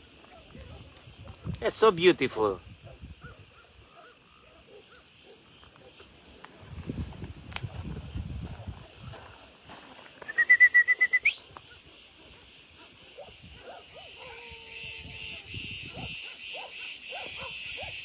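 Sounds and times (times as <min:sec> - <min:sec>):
high insect buzz: 0:00.0 - 0:18.0.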